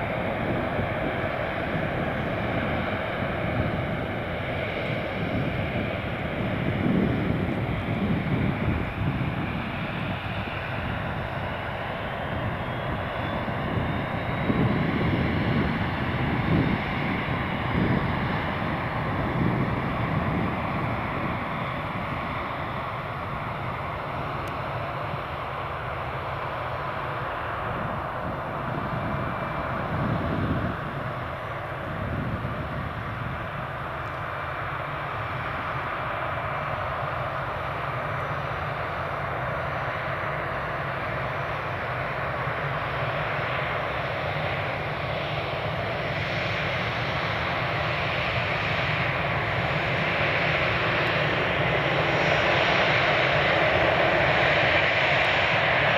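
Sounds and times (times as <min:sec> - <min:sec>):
jet airliner taxiing: 0:00.0 - 0:55.9.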